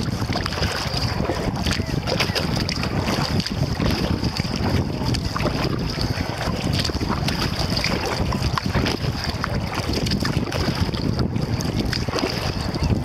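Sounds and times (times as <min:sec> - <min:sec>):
paddle splashing and dripping: 0:00.0 - 0:13.0
wind rumbling on microphone: 0:00.0 - 0:13.0.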